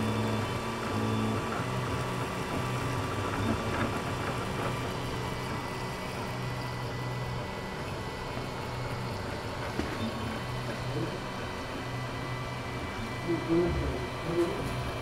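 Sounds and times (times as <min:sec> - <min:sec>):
cooling fans whirring: 0:00.0 - 0:15.0
stepper motors humming: 0:00.0 - 0:15.0.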